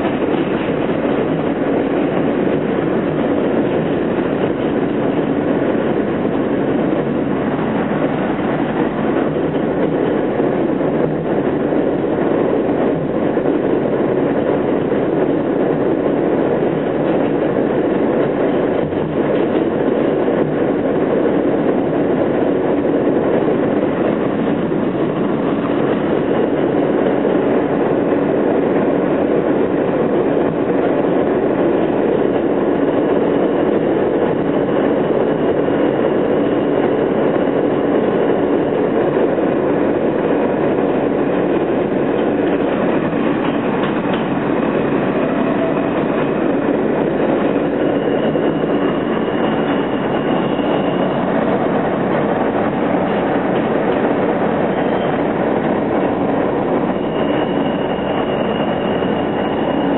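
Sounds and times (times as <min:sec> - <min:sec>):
subway car wheels rumbling on rail: 0:00.0 - 0:59.9.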